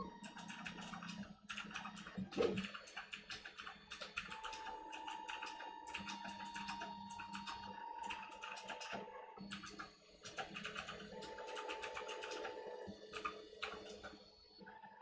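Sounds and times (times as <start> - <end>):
printer motors clicking: 0.0 - 14.9.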